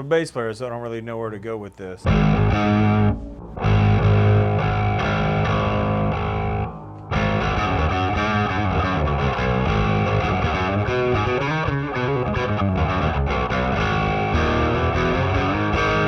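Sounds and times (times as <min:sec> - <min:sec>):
distorted bass guitar: 0:02.0 - 0:16.0.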